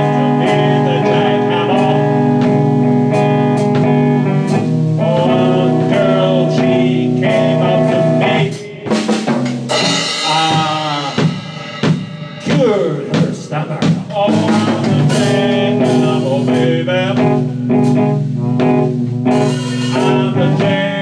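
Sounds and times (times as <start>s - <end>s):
blues guitar bending notes: 0.0s - 21.0s
drum kit steady beat: 0.0s - 21.0s.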